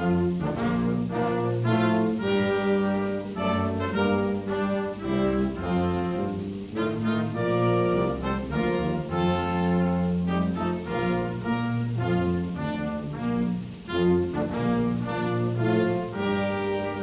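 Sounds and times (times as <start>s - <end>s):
brass ensemble playing slow chords: 0.0s - 17.0s.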